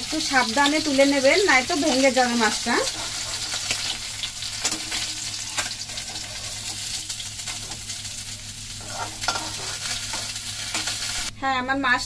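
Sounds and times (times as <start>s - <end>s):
fish sizzling in hot oil: 0.0s - 11.3s.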